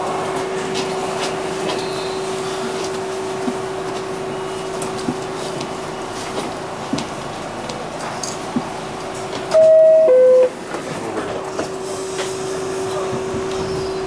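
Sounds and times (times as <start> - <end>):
subway car ventilation hum: 0.0 - 14.0.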